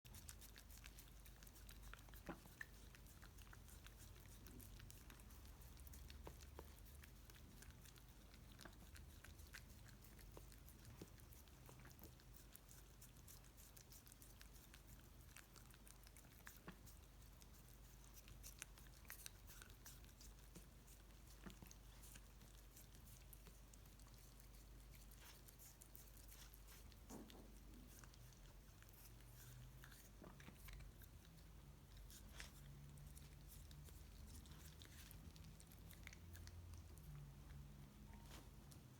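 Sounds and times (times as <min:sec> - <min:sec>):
dog licking and chewing: 0:00.0 - 0:38.9.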